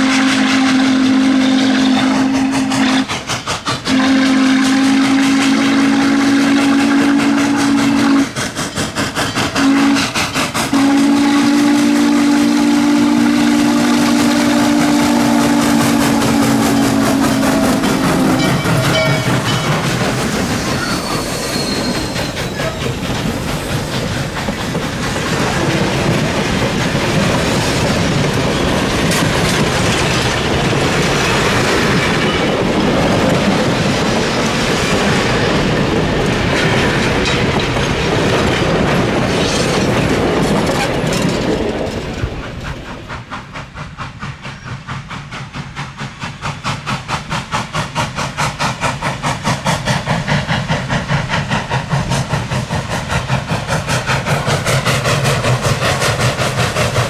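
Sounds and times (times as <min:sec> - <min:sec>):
steam locomotive exhaust beat: 0:00.0 - 0:57.0
train wheels clattering over rail joints: 0:00.7 - 0:57.0.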